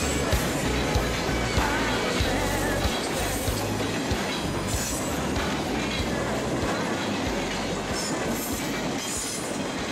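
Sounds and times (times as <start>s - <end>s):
train wheels rumbling: 0.0s - 9.9s
wheels clacking over rail joints: 0.0s - 9.9s.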